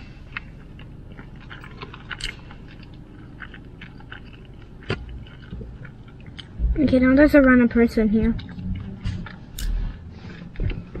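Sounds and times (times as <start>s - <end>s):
person chewing: 0.0s - 6.6s, 7.2s - 11.0s
low steady hum: 0.0s - 11.0s.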